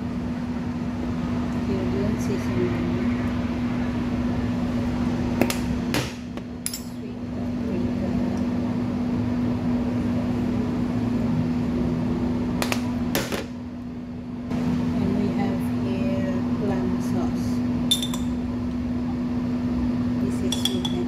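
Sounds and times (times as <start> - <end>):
air fryer humming: 0.0 - 21.0.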